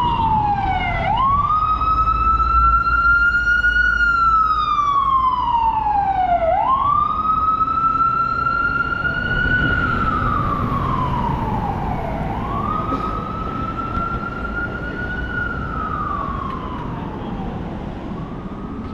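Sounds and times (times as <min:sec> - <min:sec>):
city traffic rumble: 0:00.0 - 0:18.9
emergency siren wailing: 0:00.0 - 0:18.9.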